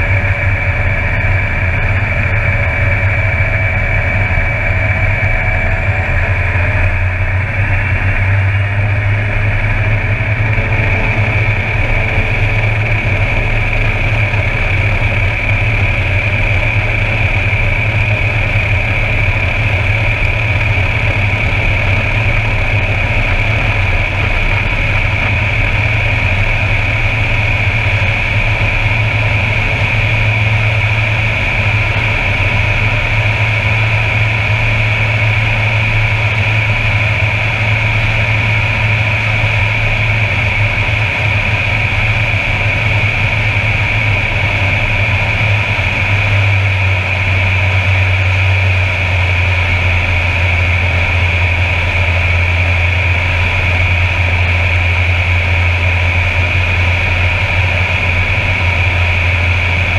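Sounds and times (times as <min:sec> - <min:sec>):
high turbine whine: 0:00.0 - 0:59.9
propeller drone: 0:00.0 - 0:59.9.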